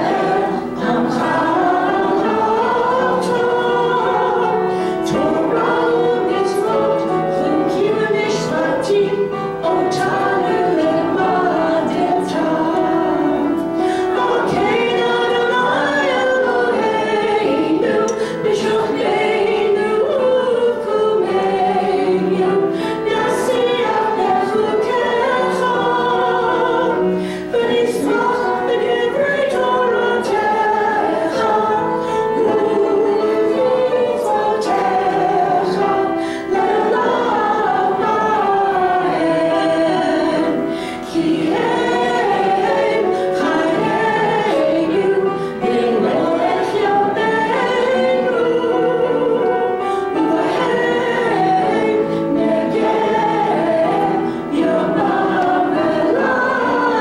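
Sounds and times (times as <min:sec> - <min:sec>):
congregation singing a prayer: 0:00.0 - 0:57.0.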